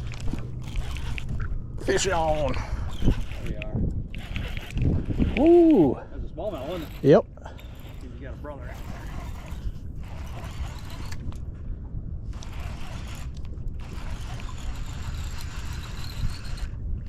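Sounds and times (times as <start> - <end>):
fishing reel whirring and clicking: 0.0 - 5.8, 6.4 - 11.4, 12.3 - 17.0
steady low rumble: 0.0 - 17.0.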